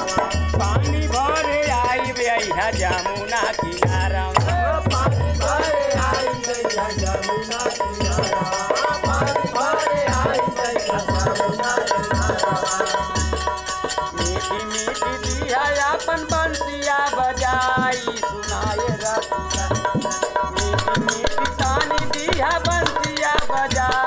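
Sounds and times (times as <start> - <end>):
men singing folk song: 0.0 - 24.0.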